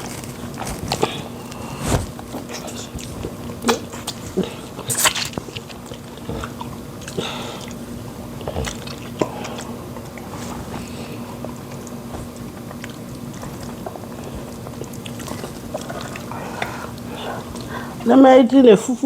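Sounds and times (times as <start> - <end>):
person chewing food: 0.0 - 18.0
steady low hum: 0.0 - 19.0.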